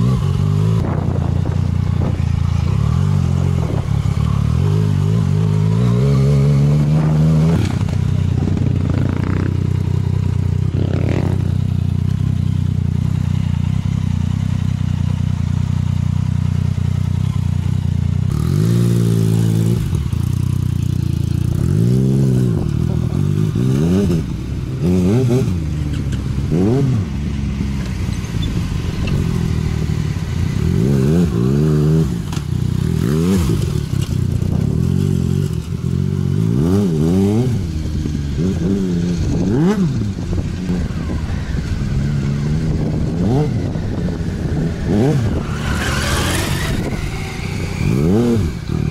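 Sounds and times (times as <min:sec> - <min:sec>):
motorcycle engine running: 0:00.0 - 0:48.9
off-road motorcycles revving: 0:00.0 - 0:48.9.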